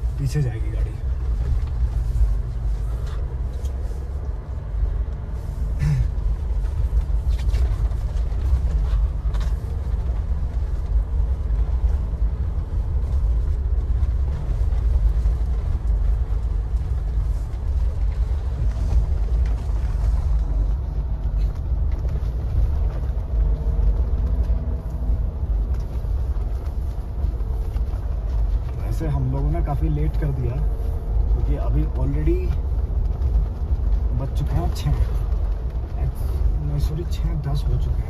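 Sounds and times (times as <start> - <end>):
engine and road noise drone: 0.0 - 38.0.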